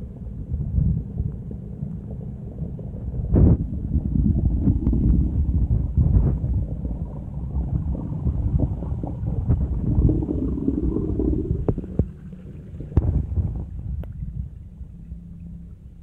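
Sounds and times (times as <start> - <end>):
muffled underwater rumbling: 0.0 - 16.0.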